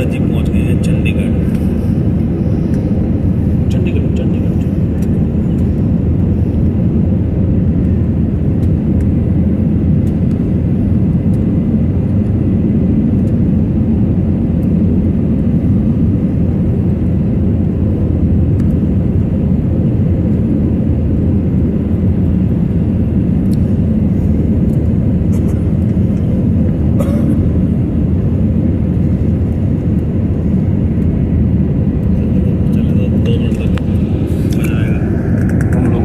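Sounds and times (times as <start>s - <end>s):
jet engine cabin rumble: 0.0s - 36.0s.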